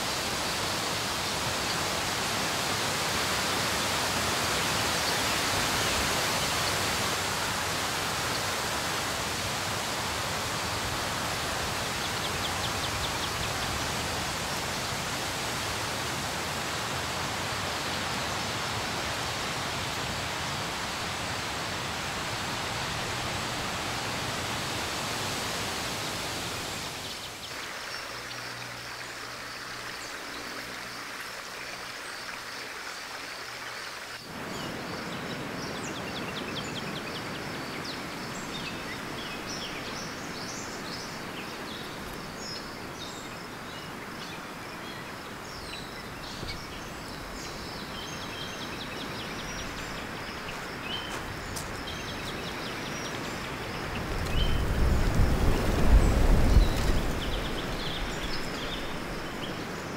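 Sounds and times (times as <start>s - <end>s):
rushing running water: 0.0s - 59.9s.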